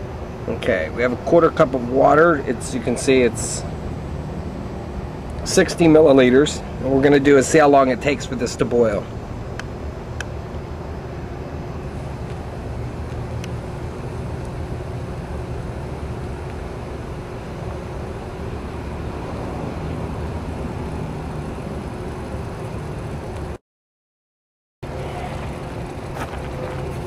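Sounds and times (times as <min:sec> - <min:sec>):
low outdoor background rumble: 0:00.0 - 0:23.6, 0:24.8 - 0:27.0.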